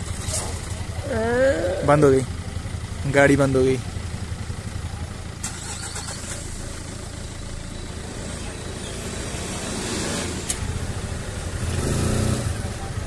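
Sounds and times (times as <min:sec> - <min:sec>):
idling vehicle engines rumbling: 0:00.0 - 0:13.0.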